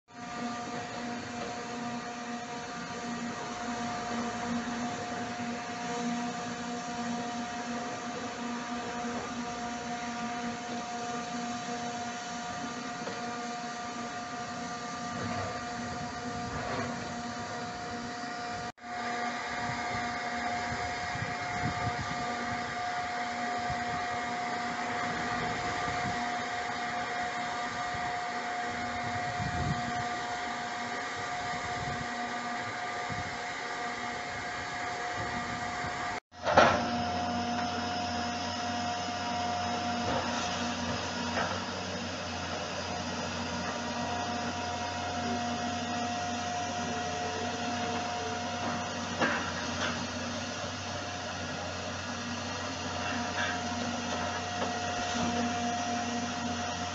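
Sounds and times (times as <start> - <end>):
demolition machinery whine and rumble: 0.1 - 56.9.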